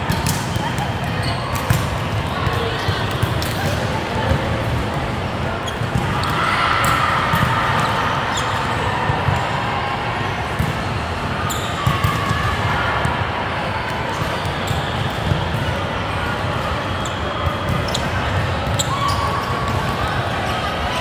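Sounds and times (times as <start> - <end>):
background din in a hall: 0.0 - 21.0.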